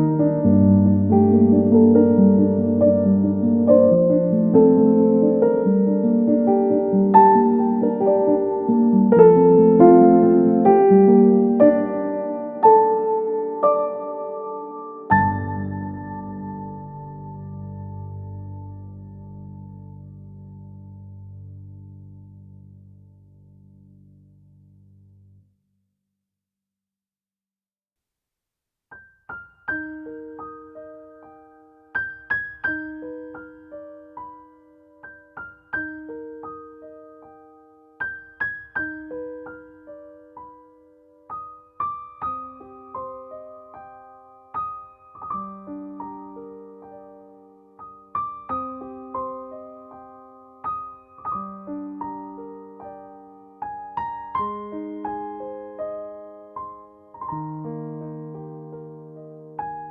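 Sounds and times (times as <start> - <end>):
gentle piano melody: 0.0 - 25.4, 28.9 - 59.9.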